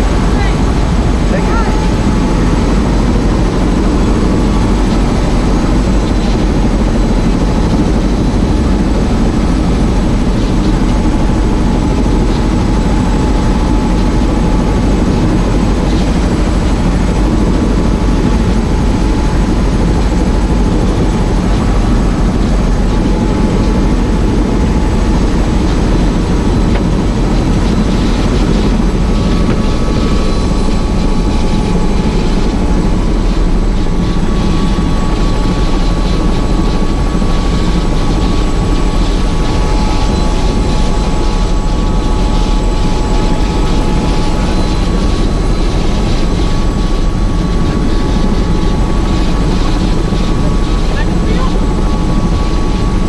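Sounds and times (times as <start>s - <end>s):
faint steady whine: 0.0s - 53.0s
helicopter rotor and engine: 0.0s - 53.0s.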